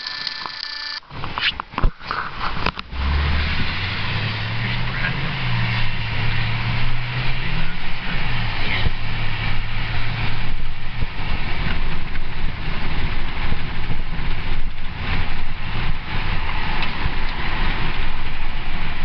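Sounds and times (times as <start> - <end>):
low engine hum: 0.0 - 19.0
road rumble: 0.0 - 19.0.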